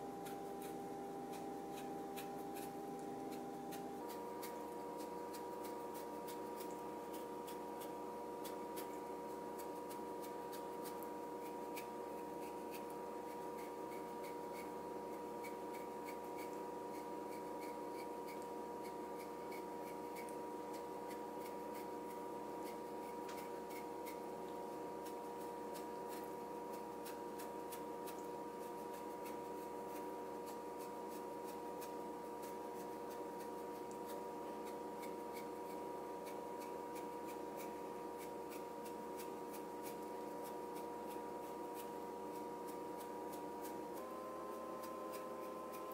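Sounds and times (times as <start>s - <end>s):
knife scratching radish: 0.0s - 45.9s
steady hum: 0.0s - 45.9s.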